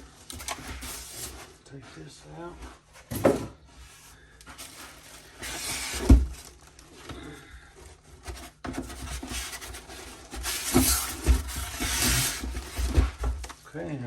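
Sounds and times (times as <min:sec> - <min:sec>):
packaging rustling and scraping: 0:00.0 - 0:13.7.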